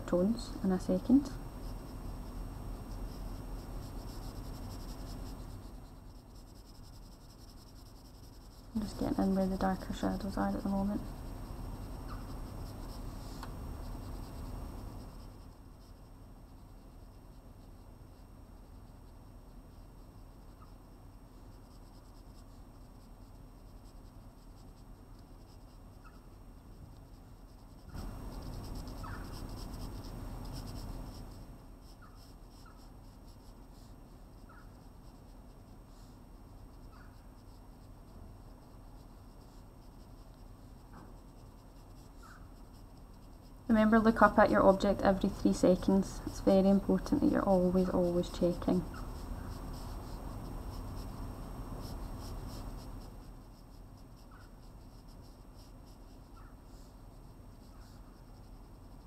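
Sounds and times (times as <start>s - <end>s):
pencil scratching on paper: 0.1s - 59.0s.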